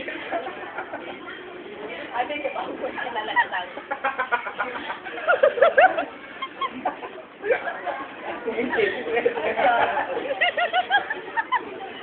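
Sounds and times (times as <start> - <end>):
restaurant chatter: 0.0 - 12.0.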